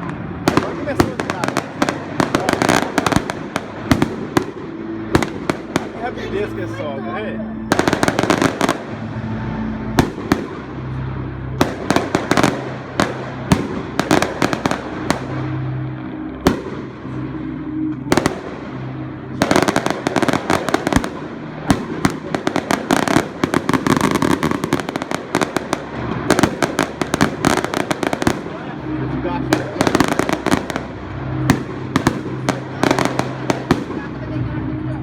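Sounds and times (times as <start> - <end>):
fireworks banging and crackling: 0.0 - 6.6, 7.7 - 35.0.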